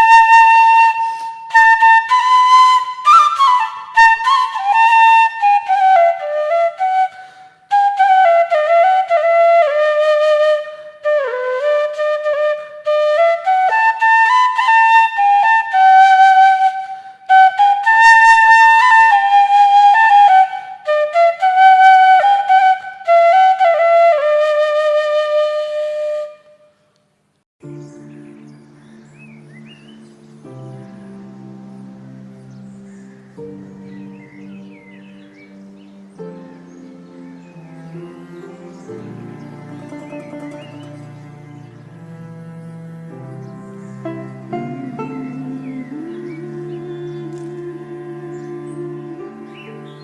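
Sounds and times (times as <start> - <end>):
solo flute melody: 0.0 - 26.8, 27.6 - 50.0.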